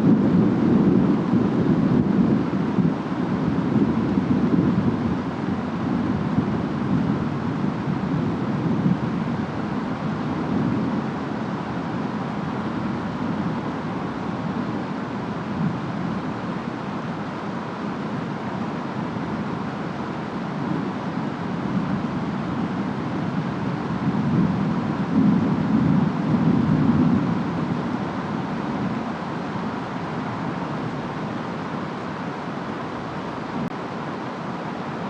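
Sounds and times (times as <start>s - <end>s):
rain: 0.0s - 35.0s
wind: 0.0s - 35.0s.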